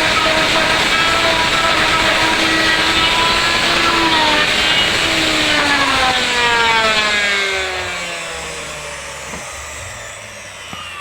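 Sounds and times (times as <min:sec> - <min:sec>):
motor whine winding down: 0:00.0 - 0:11.0.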